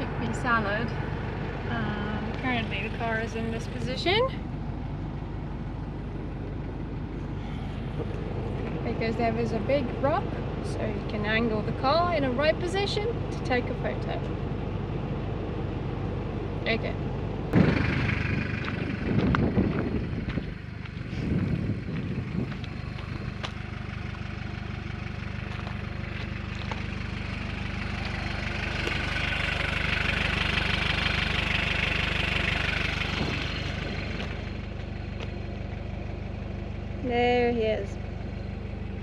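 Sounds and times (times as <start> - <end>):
car engine running at low revs: 0.0 - 39.0.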